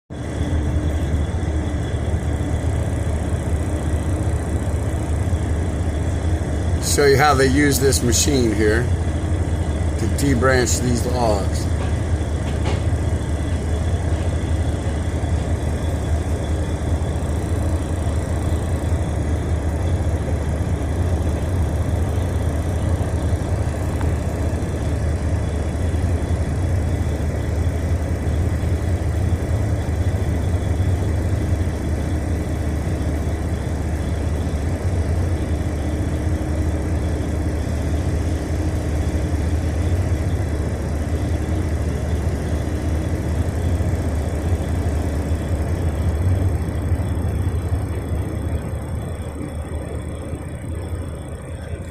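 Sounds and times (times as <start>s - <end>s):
diesel engine droning: 0.1s - 51.9s.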